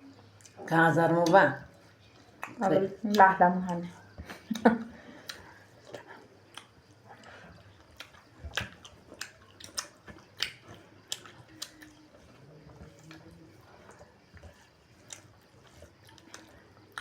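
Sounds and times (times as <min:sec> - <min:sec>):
chewing with mouth clicks: 0:00.0 - 0:17.0.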